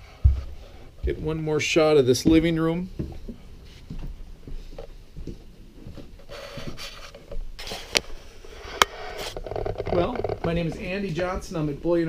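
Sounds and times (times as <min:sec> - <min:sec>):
footsteps and handling knocks: 0:00.0 - 0:08.1, 0:08.8 - 0:11.6.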